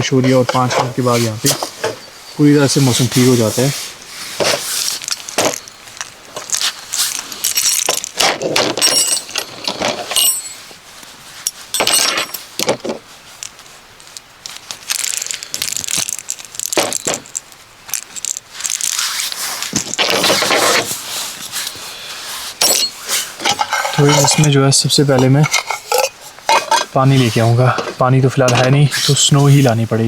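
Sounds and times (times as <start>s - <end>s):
metal camping gear clinking: 0.0s - 21.9s, 22.5s - 29.7s.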